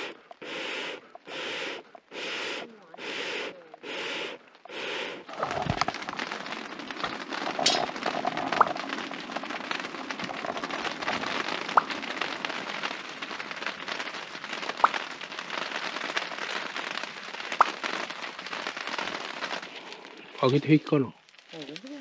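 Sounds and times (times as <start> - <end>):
charcoal fire crackling: 0.0 - 22.0.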